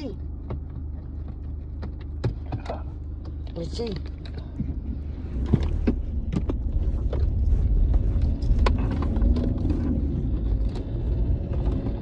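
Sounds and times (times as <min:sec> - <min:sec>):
car road and engine rumble: 0:00.0 - 0:12.0
clicks and knocks inside car: 0:00.0 - 0:12.0.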